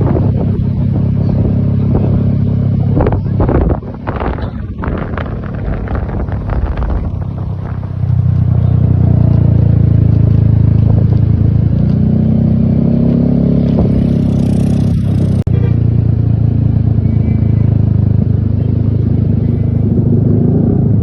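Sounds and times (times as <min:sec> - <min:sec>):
bus engine revving: 0:00.0 - 0:21.0.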